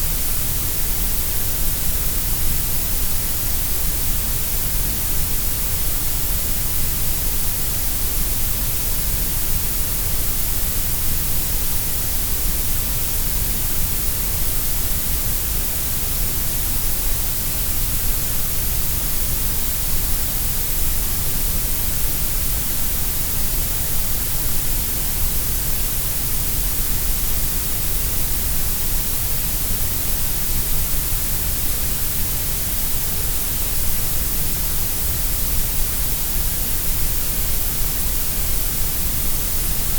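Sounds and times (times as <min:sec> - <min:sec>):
grey noise hiss: 0:00.0 - 0:39.9.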